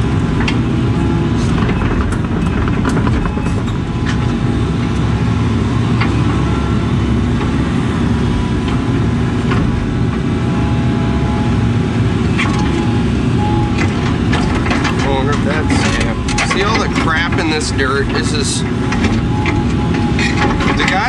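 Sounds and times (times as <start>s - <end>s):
excavator diesel engine: 0.0s - 21.0s.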